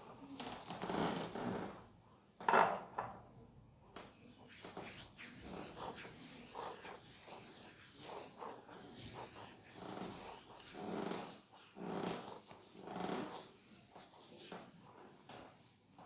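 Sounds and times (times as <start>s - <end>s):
hands rubbing scalp and hair: 0.0s - 1.8s, 4.2s - 16.0s.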